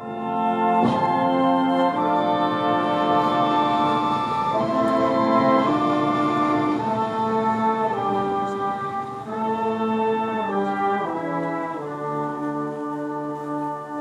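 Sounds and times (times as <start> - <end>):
brass band playing slow chords: 0.0 - 14.0.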